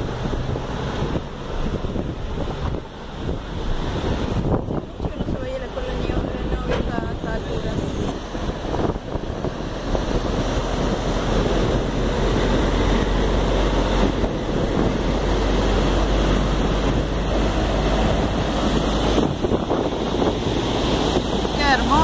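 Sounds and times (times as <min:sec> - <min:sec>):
water jetting onto riverbed: 0:00.0 - 0:22.0.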